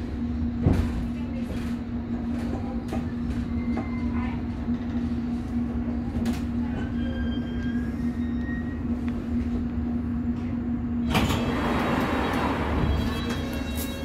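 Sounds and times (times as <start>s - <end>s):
constant hum: 0.0s - 14.0s
train rumble: 0.0s - 14.0s.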